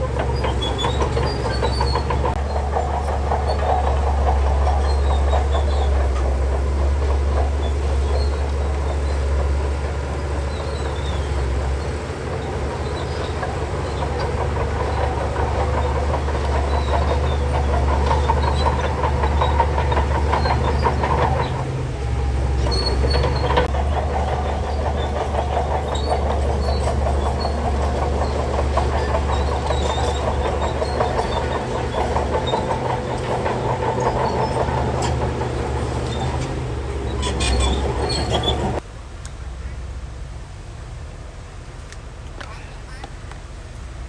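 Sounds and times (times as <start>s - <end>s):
steel tracks clattering: 0.0s - 38.8s
bulldozer diesel engine under load: 0.0s - 39.0s.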